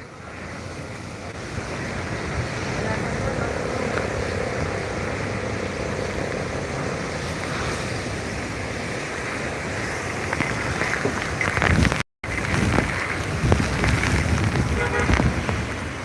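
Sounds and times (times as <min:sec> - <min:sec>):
heavy rain falling: 0:00.0 - 0:16.0
wind buffeting microphone: 0:00.0 - 0:16.0.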